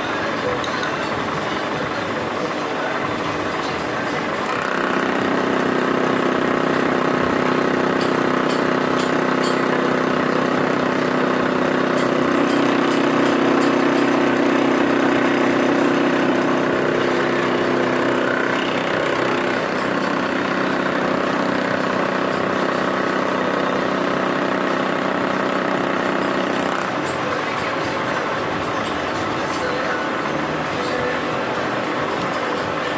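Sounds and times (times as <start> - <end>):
milling machine humming: 0.0 - 32.9.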